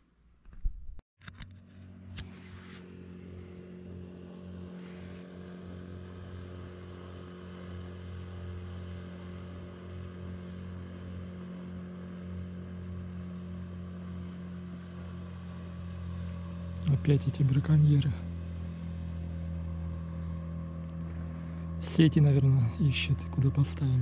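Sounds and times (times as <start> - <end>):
motorboat engine droning: 1.3 - 24.0.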